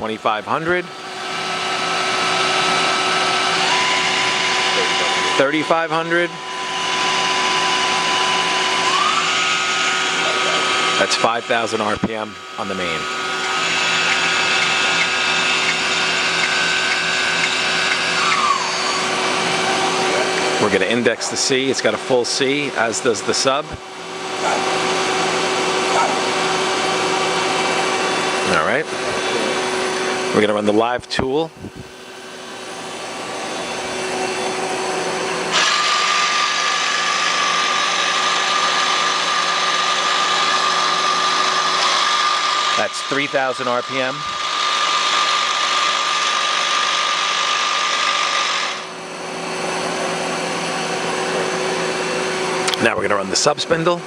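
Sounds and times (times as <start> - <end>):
machine hum: 0.0 - 54.0
lathe spindle whine: 0.6 - 30.7, 31.6 - 54.0.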